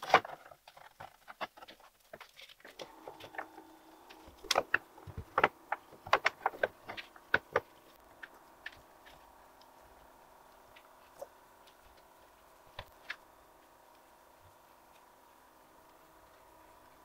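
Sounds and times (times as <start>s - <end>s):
wooden blocks clicking and knocking: 0.0s - 15.2s
faint hum: 2.7s - 17.0s.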